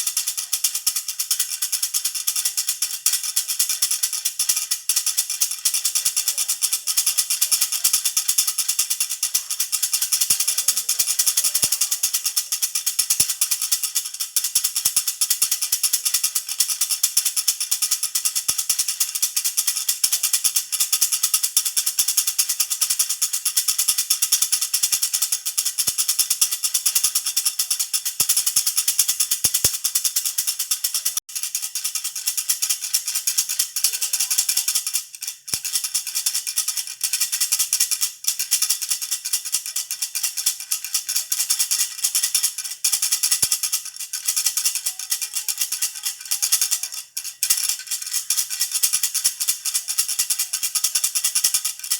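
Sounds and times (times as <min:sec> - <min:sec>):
baby rattle shaken: 0:00.0 - 0:51.9.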